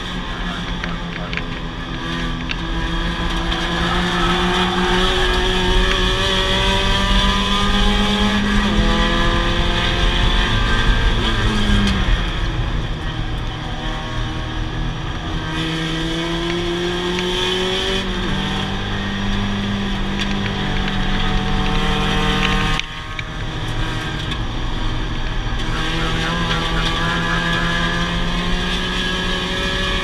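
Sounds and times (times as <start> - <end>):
race car engine revving: 0.0 - 30.0
road noise: 0.0 - 30.0.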